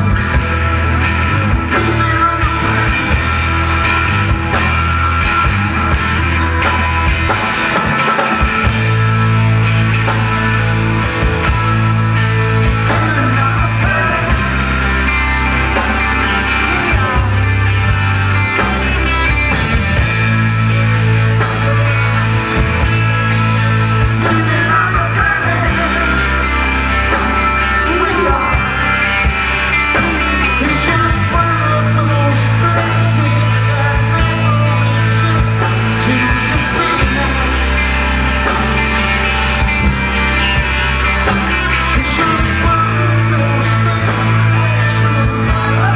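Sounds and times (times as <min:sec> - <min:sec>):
held bass notes: 0:00.0 - 0:45.9
live rock band playing: 0:00.0 - 0:45.9.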